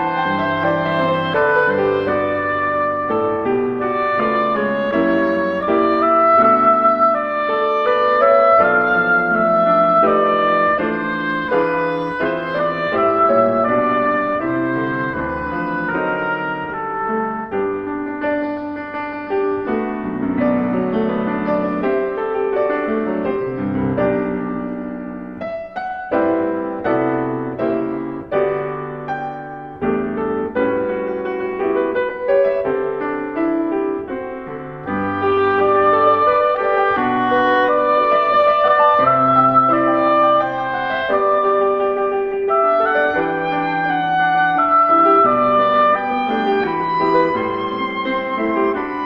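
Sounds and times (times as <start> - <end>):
instrumental background music: 0.0 - 49.0
piano playing chords: 0.0 - 49.0.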